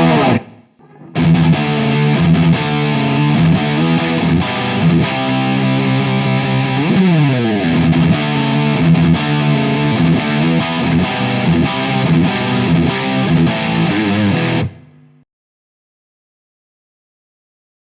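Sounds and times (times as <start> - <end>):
distorted electric guitar: 0.0 - 15.2.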